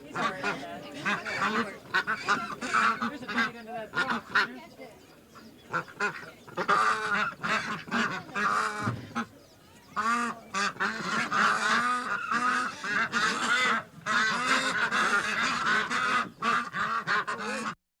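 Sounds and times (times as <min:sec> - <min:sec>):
ducks and geese honking and quacking: 0:00.0 - 0:17.8.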